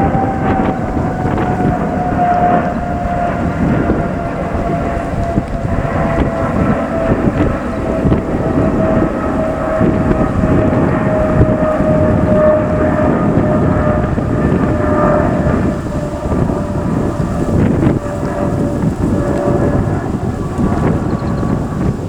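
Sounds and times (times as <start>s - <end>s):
jet airliner engines roaring: 0.0s - 22.0s.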